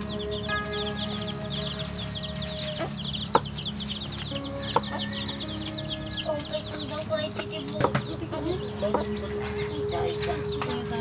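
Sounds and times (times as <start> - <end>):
chickens peeping and clucking: 0.0 - 11.0
soft background music: 0.0 - 11.0.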